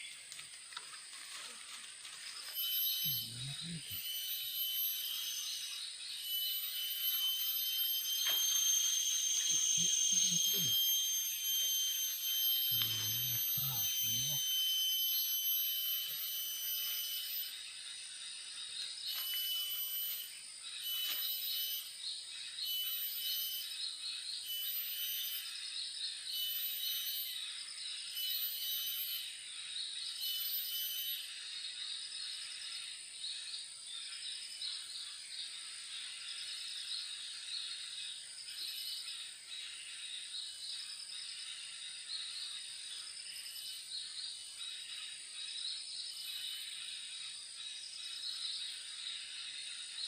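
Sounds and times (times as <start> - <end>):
birds chirping: 0.0 - 50.0
insects trilling: 0.0 - 50.0.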